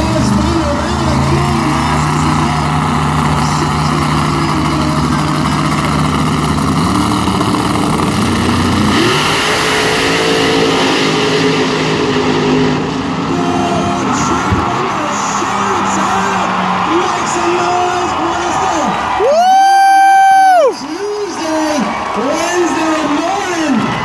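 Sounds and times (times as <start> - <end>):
drag race car engines revving: 0.0 - 24.0.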